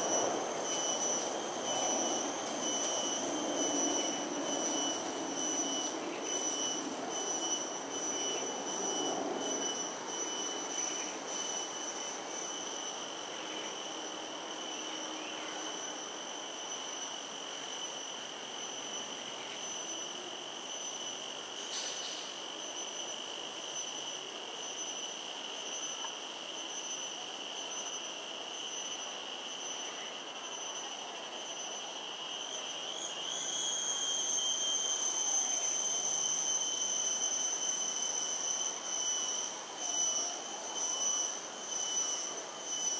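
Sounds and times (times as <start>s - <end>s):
high-pitched whine: 0.0s - 42.9s.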